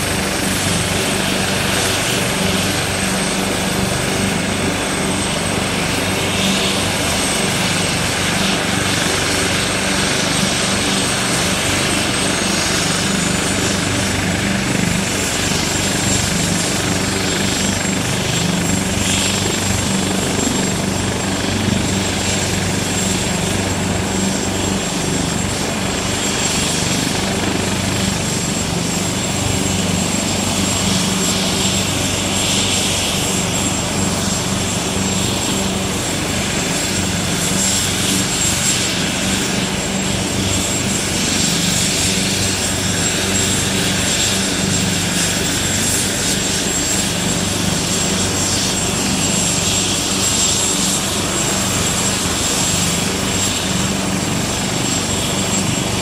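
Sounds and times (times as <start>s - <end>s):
helicopter turbine whine: 0.0s - 56.0s.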